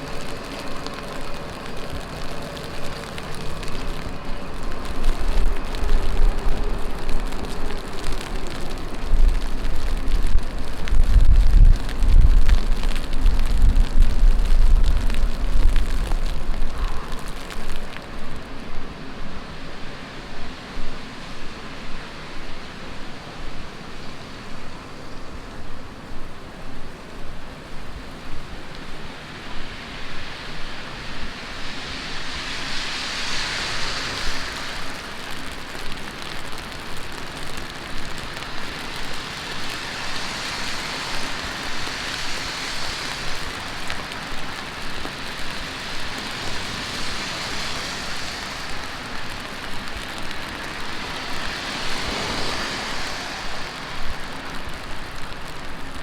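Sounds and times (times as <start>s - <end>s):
heavy rain on street: 0.0s - 56.0s.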